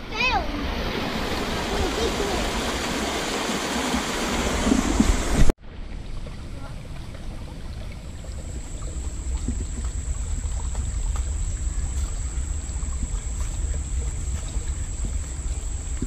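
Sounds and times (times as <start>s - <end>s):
creek trickling over stones: 0.5s - 16.0s
wind rumble on microphone: 0.6s - 16.0s.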